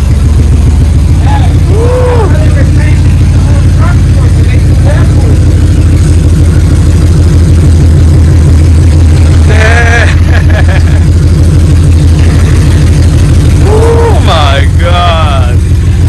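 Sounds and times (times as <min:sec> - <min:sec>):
engine idling loudly: 0:00.0 - 0:16.0.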